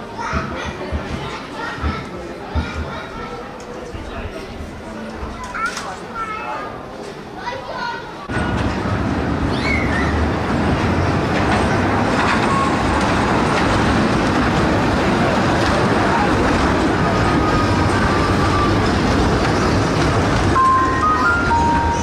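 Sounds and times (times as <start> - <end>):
ride-on train rumbling on track: 0.0 - 6.3, 8.2 - 22.0.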